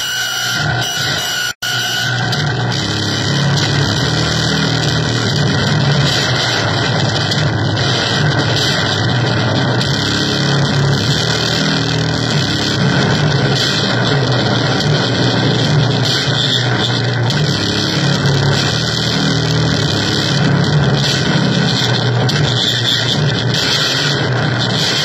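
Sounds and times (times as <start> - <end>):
harsh electronic noise music: 0.0 - 25.0.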